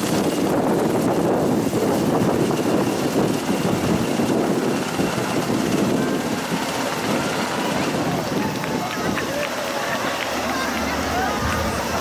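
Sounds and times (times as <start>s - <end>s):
helicopter passing overhead: 0.0s - 12.0s.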